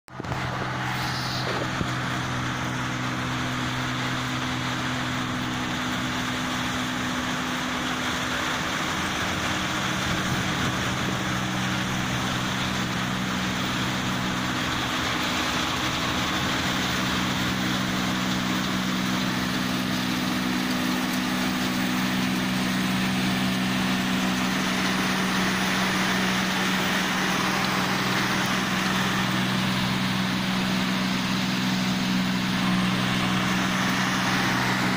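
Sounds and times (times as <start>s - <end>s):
diesel engine drone: 0.1s - 34.9s
machinery rushing noise: 0.1s - 34.9s.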